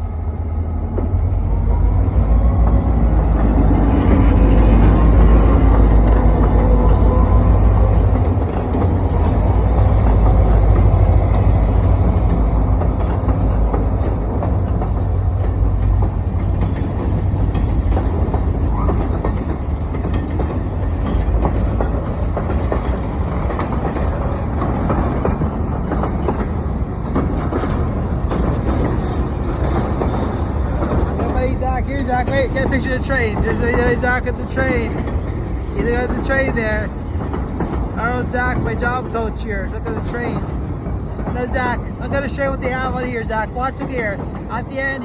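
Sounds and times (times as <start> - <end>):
freight train rumble: 0.0 - 45.0
locomotive engine tones: 0.0 - 45.0
train wheels clacking over rail joints: 0.9 - 45.0.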